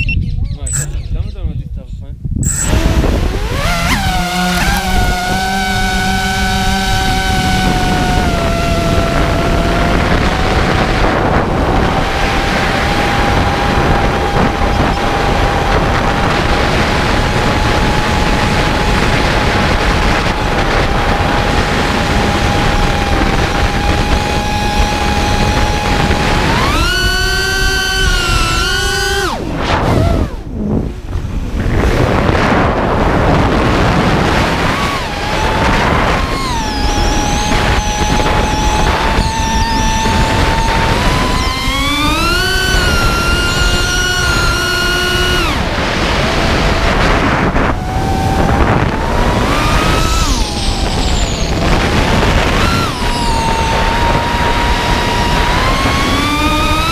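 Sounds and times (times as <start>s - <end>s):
drone motors whining: 0.0s - 1.4s, 2.4s - 56.9s
wind rush on microphone: 0.0s - 56.9s.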